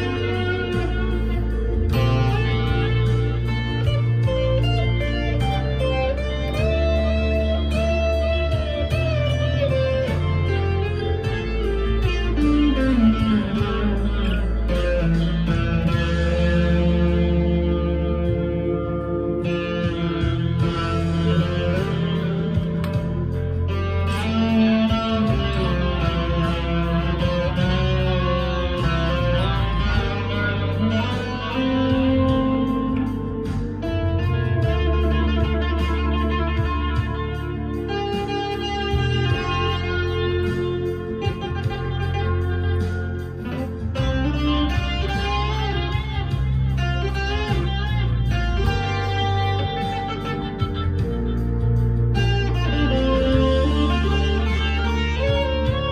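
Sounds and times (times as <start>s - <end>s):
overdriven electric guitar: 0.0s - 55.9s.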